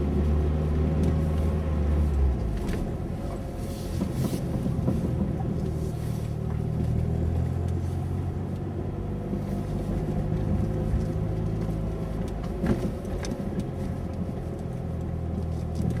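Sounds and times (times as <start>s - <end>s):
car engine hum with whine: 0.0s - 16.0s.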